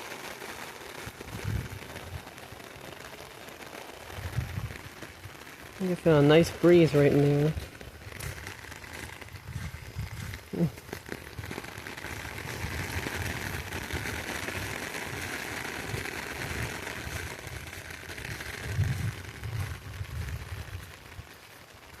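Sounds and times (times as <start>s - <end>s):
heavy rain hissing: 0.0s - 22.0s
wind buffeting microphone: 1.0s - 2.7s, 4.1s - 21.4s.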